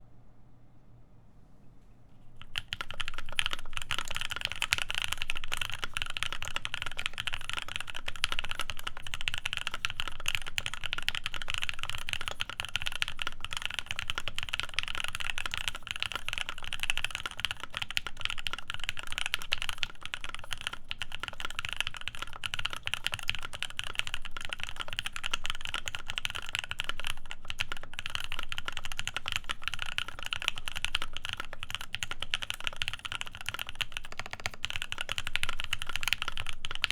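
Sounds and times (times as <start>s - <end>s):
fast mechanical keyboard typing: 2.4s - 36.9s.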